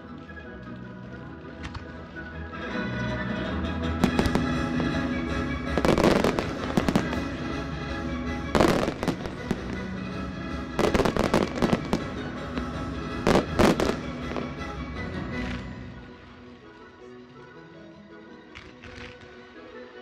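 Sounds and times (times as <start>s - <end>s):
music: 0.0s - 20.0s.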